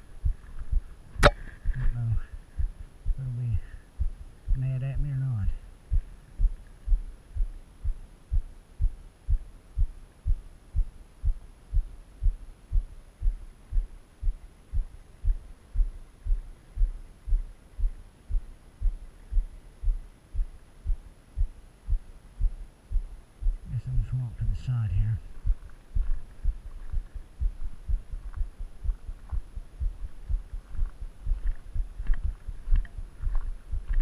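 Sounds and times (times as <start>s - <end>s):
faint hiss: 0.0s - 34.0s
low thumps: 0.0s - 34.0s.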